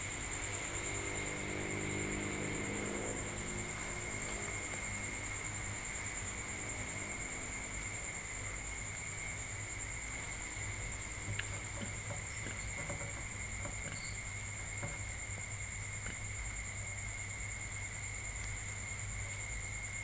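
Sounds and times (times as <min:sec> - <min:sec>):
insects trilling: 0:00.0 - 0:20.0
low steady hum: 0:00.0 - 0:20.0.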